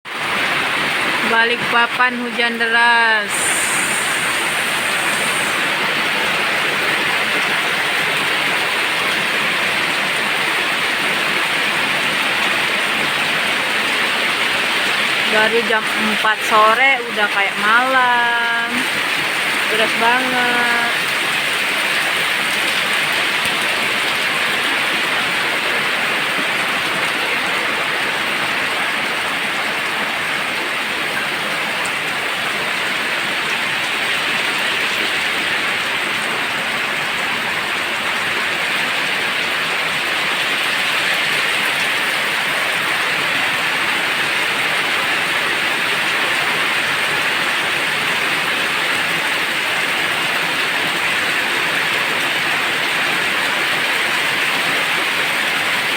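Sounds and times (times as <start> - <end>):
heavy rain pouring: 0.1 - 55.9.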